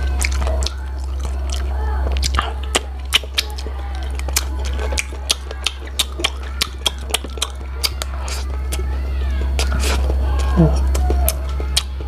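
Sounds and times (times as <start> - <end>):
close chewing and lip smacking: 0.0 - 12.0
steady low hum: 0.0 - 12.0.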